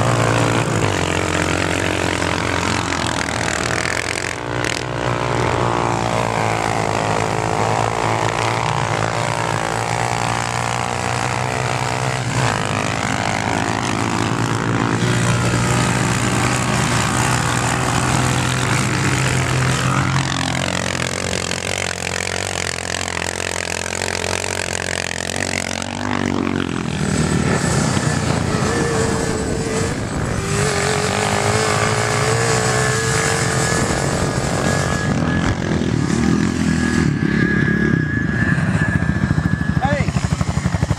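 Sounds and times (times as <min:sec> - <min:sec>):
quad bike engines revving: 0:00.0 - 0:40.9.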